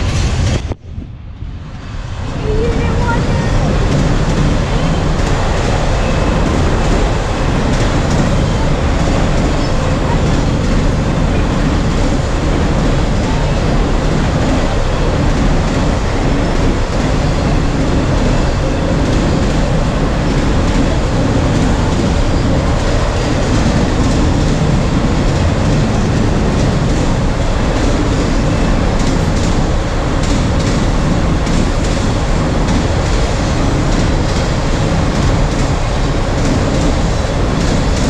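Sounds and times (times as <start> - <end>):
steel train wheels on rail: 0.0 - 38.0.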